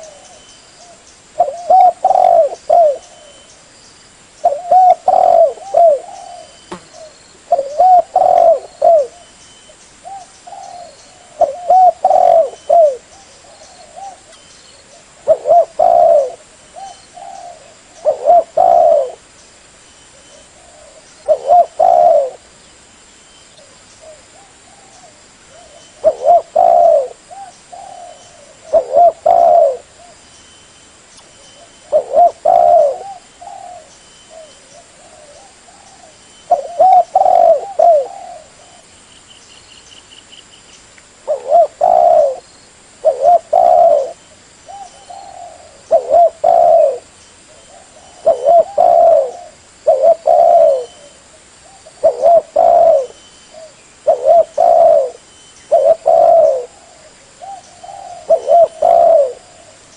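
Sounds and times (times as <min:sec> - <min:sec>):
dove cooing: 0:00.0 - 0:03.5, 0:04.4 - 0:09.3, 0:10.0 - 0:19.3, 0:20.1 - 0:22.5, 0:23.6 - 0:30.2, 0:31.6 - 0:38.9, 0:41.2 - 0:42.4, 0:43.0 - 0:59.9.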